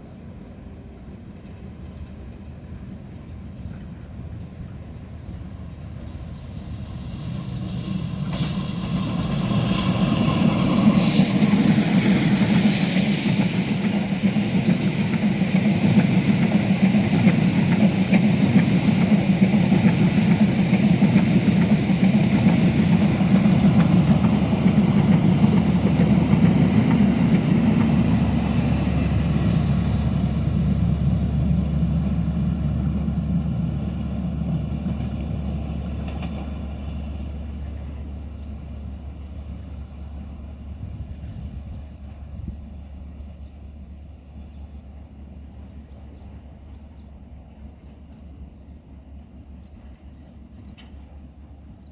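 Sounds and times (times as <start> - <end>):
train rumbling past: 0.0 - 51.9.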